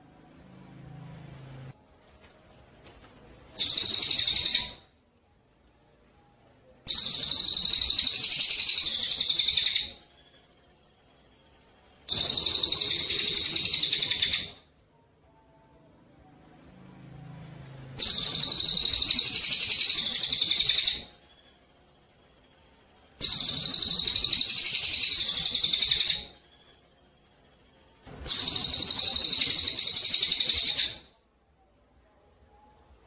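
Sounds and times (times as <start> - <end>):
songbird buzzy trills: 0.0 - 33.0.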